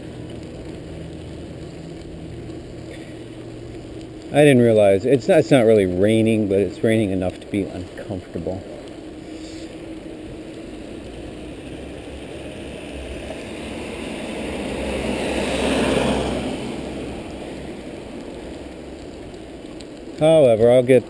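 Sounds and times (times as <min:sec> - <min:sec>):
bicycle tyres on wet asphalt: 0:00.0 - 0:21.0
vehicle passing on wet road: 0:00.0 - 0:21.0.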